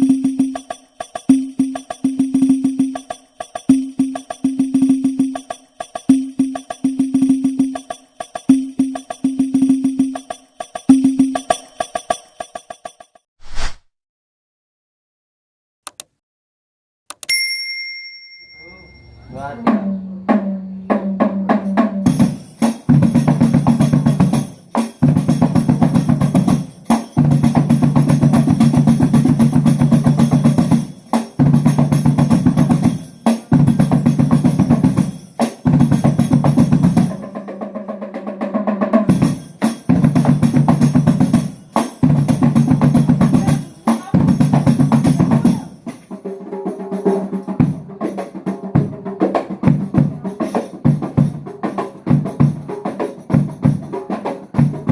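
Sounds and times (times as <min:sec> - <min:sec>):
drums playing fast rhythm: 0:00.0 - 0:13.1, 0:20.4 - 0:54.9.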